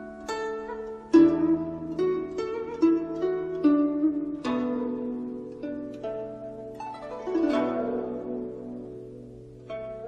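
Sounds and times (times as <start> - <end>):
plucked string notes: 0.0 - 10.0.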